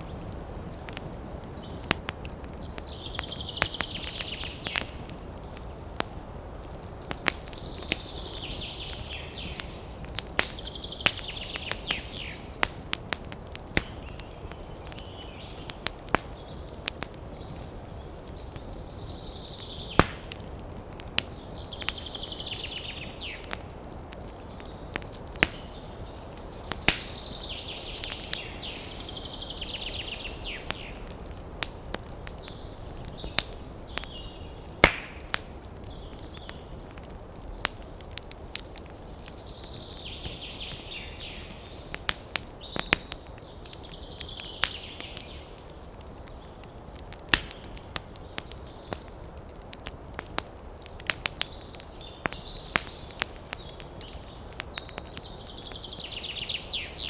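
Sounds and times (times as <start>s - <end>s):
wind in the trees: 0.0s - 50.8s
birds singing: 0.0s - 57.0s
campfire crackling: 0.0s - 57.0s.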